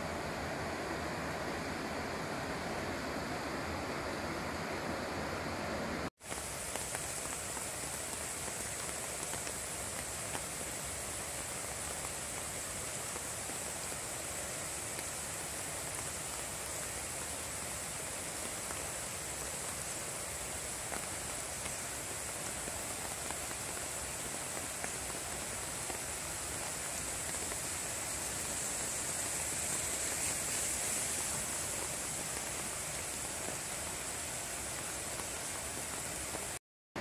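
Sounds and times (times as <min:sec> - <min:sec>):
water rushing over weir: 0:00.0 - 0:36.6.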